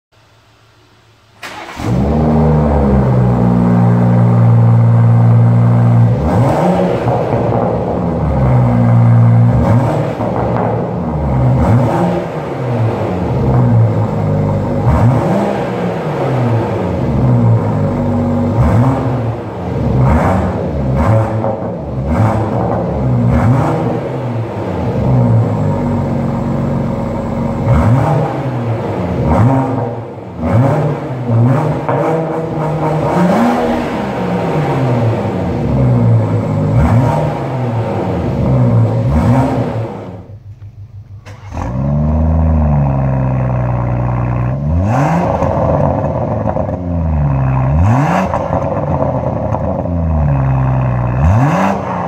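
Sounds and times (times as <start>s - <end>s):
car engine starting and revving: 1.2s - 52.0s.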